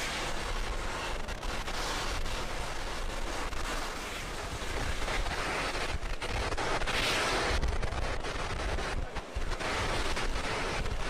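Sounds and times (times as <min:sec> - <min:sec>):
rocket engines rumbling and crackling: 0:00.0 - 0:11.0.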